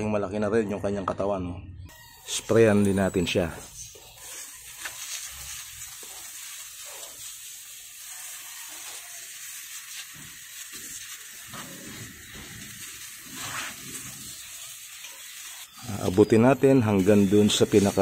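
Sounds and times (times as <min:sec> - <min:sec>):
fine spray hissing: 0:02.2 - 0:18.0.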